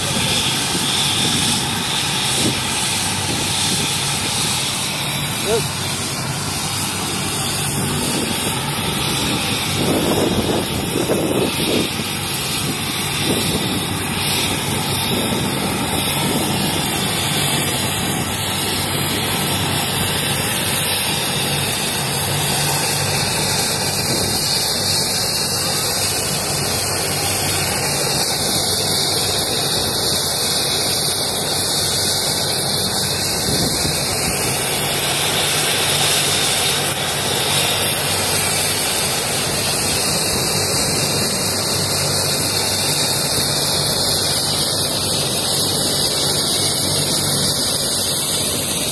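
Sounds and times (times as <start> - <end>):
helicopter engine and rotor: 0.0 - 48.9.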